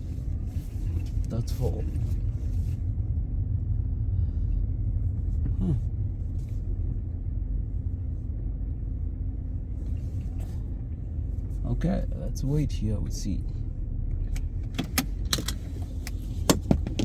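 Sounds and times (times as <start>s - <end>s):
car engine humming inside cabin: 0.0s - 17.0s.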